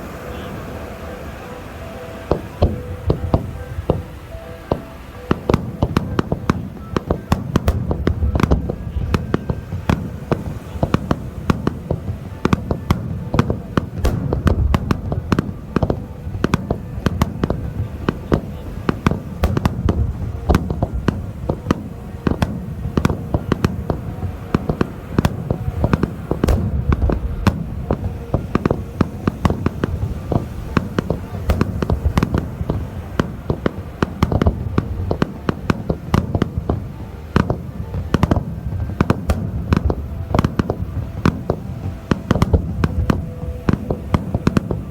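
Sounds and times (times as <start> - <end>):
fireworks crackling pops: 0.0 - 44.9
deep fireworks booms: 2.0 - 44.9.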